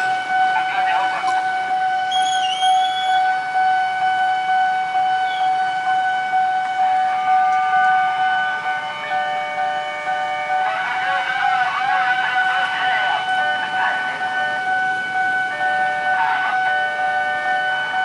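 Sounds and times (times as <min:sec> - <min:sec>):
level crossing warning alarm: 0:00.0 - 0:18.0.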